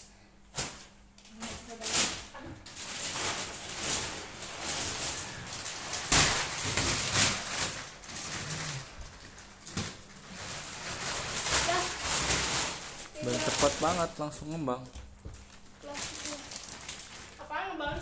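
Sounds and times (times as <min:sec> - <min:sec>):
plastic sheet crinkling: 0:00.5 - 0:18.0.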